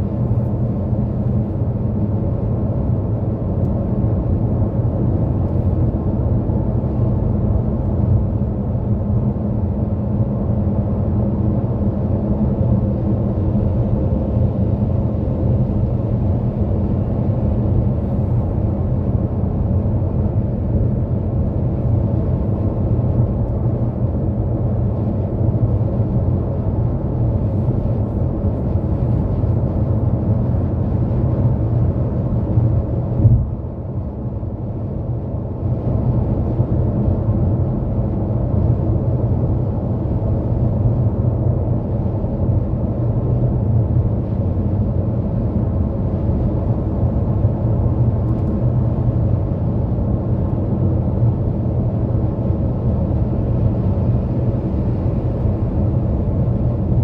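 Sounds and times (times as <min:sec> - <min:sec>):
car road and tyre noise: 0:00.0 - 0:57.0.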